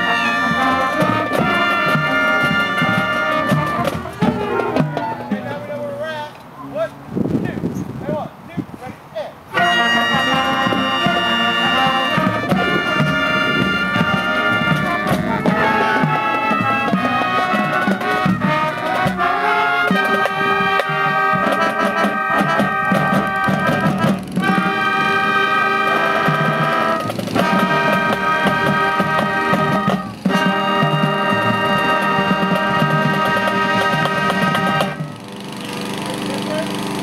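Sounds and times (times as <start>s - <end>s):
brass section playing chords: 0.0s - 7.2s, 9.5s - 36.7s.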